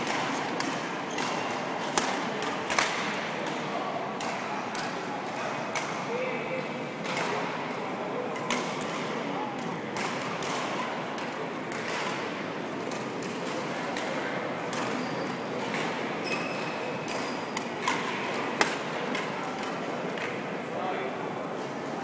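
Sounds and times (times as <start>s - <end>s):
rackets striking shuttlecocks: 0.0s - 6.1s, 8.3s - 20.4s
sports hall background noise: 0.0s - 22.0s.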